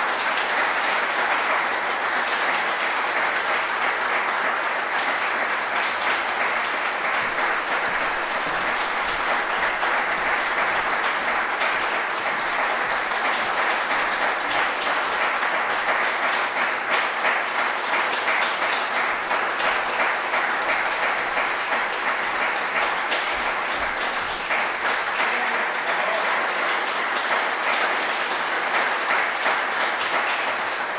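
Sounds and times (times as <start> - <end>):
audience applauding: 0.0 - 30.9.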